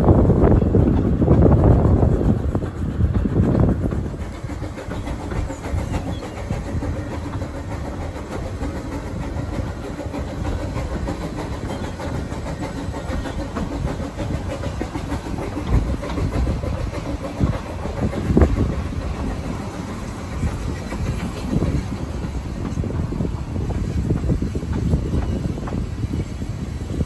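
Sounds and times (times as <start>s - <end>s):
train rumble: 0.0s - 27.0s
wheels clicking over rail joints: 0.0s - 27.0s.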